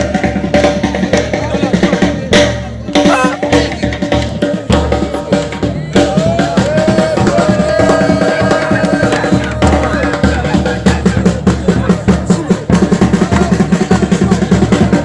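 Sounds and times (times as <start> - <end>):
drums and percussion beat: 0.0 - 15.0.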